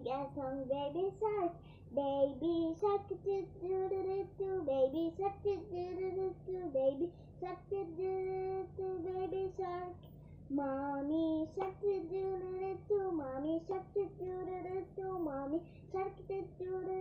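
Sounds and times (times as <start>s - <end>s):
girl singing unaccompanied: 0.0s - 17.0s
low steady hum: 0.0s - 17.0s.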